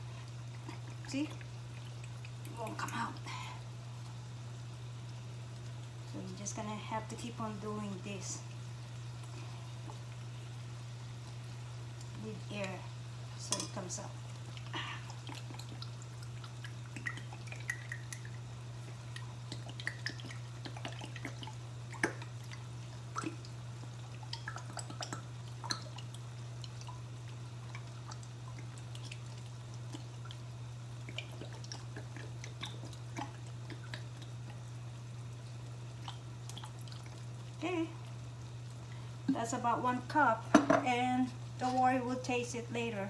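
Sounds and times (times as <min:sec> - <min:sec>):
sauce bubbling in a skillet: 0:00.0 - 0:42.4
steady low hum: 0:00.0 - 0:43.0.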